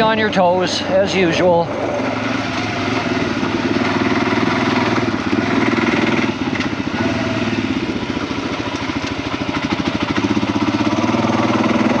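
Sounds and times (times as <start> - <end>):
off-road vehicle engine pulsing: 0.0 - 12.0.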